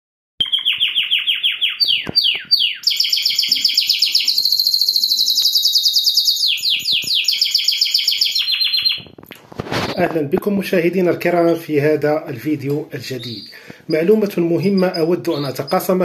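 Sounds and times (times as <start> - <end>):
canary singing: 0.4 - 9.3, 11.2 - 16.0.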